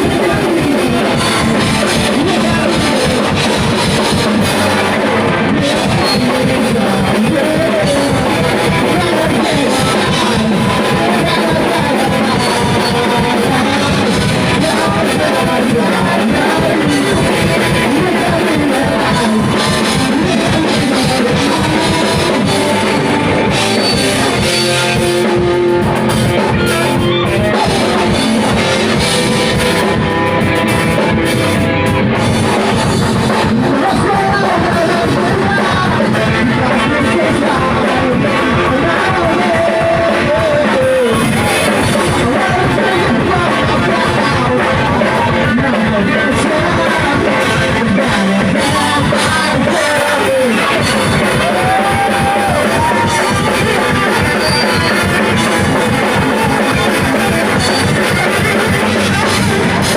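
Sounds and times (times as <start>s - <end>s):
drum kit: 0.0s - 59.9s
electric guitar: 0.0s - 59.9s
person singing: 0.0s - 59.9s.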